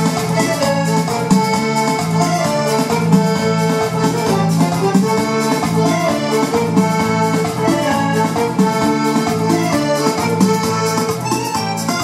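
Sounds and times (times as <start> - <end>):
keyboard accompaniment beat: 0.0 - 12.0
keyboard accordion melody: 0.0 - 12.0.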